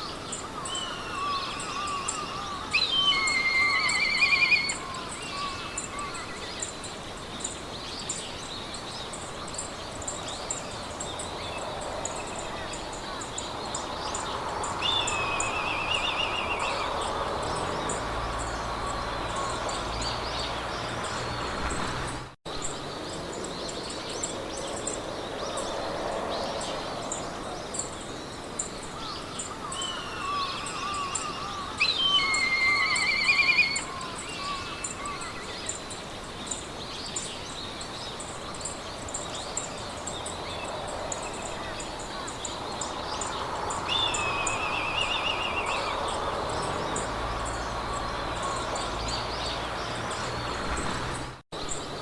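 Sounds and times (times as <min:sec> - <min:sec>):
songbirds singing: 0:00.0 - 0:52.0
wind in grass: 0:00.0 - 0:52.0.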